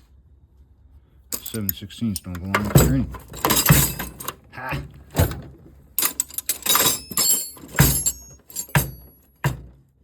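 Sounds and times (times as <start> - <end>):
metal tools clanking in drawer: 1.4 - 9.8.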